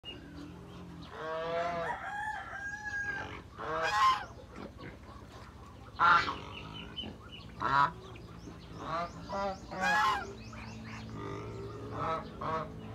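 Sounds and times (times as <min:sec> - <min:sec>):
geese honking: 0:01.1 - 0:12.9.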